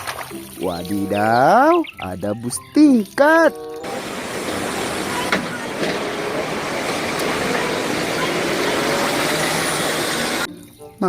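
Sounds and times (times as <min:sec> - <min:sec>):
running water rinsing toy: 0:00.0 - 0:01.7, 0:02.8 - 0:10.5.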